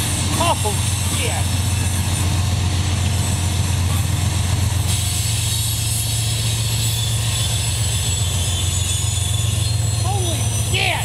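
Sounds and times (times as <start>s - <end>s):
diesel locomotive drone: 0.0s - 11.0s
freight cars rolling by: 0.0s - 11.0s.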